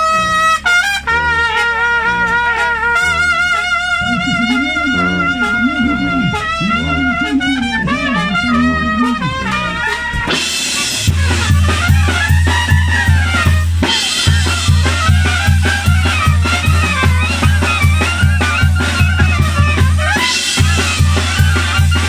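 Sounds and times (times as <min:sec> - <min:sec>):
trumpets and clarinets melody: 0:00.0 - 0:22.0
sousaphone bass line: 0:01.3 - 0:22.0
bass drum beat: 0:03.1 - 0:10.4, 0:11.0 - 0:22.0.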